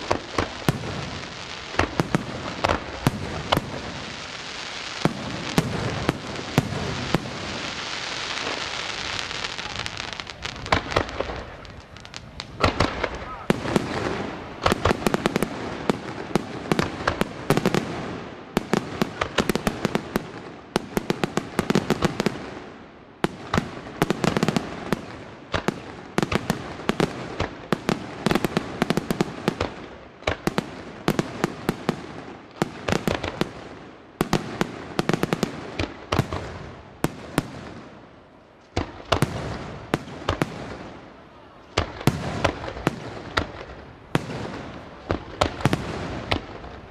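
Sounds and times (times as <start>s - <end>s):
fireworks bangs: 0.0s - 46.9s
fireworks crackling: 0.0s - 46.9s.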